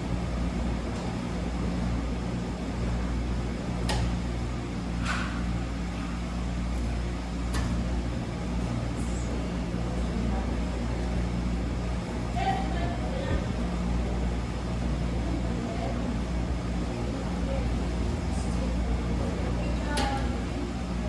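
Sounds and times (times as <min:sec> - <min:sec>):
washing machine hum: 0:00.0 - 0:21.0.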